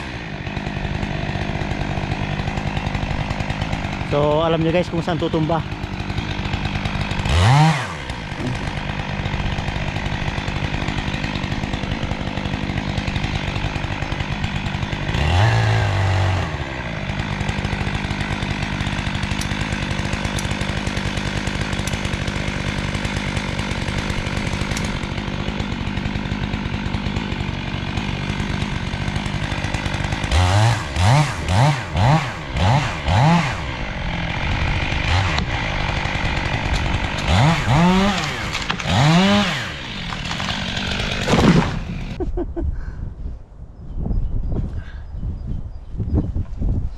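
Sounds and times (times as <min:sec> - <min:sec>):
chainsaw revving: 0:00.0 - 0:42.2.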